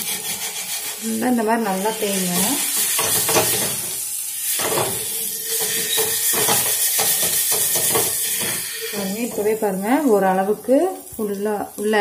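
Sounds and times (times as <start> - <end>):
onion scraping over grains: 0.0 - 10.0
steady sizzle: 0.0 - 12.0.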